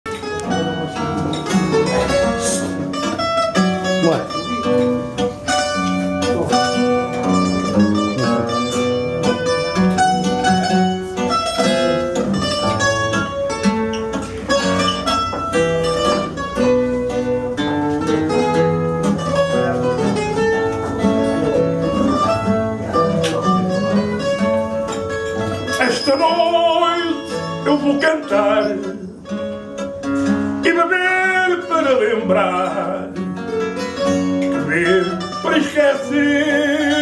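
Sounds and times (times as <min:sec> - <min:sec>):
plucked guitar melody: 0:00.0 - 0:37.0
classical guitar chords: 0:00.1 - 0:37.0.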